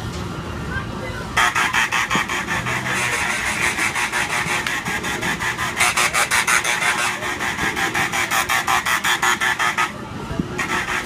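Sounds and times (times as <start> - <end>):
kiddie ride rattling: 0.0 - 11.0.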